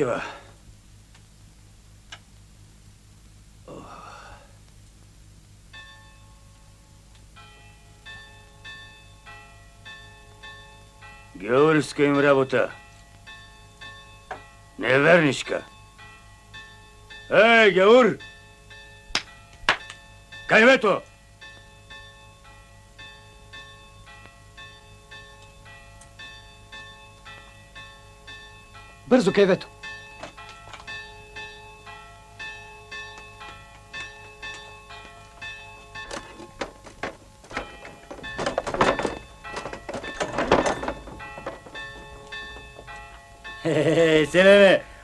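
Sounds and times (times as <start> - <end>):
church bells ringing: 5.7 - 45.0.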